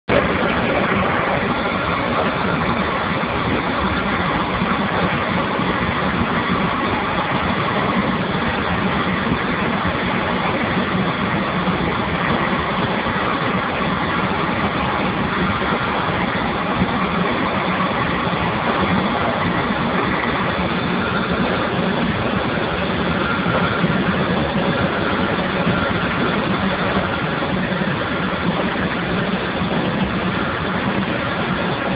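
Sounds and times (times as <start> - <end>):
low hum: 0.0 - 31.9
steam boiler roaring: 0.0 - 31.9.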